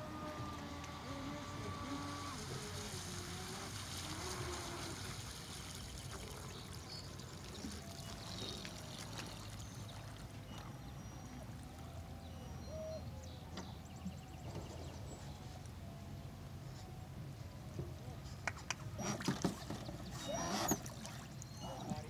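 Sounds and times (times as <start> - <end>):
water lapping and trickling: 0.0 - 22.0.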